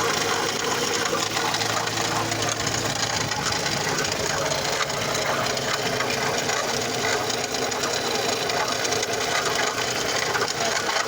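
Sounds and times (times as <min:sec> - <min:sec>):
car engine running: 0:00.0 - 0:11.0
strange engine noise: 0:00.0 - 0:11.0.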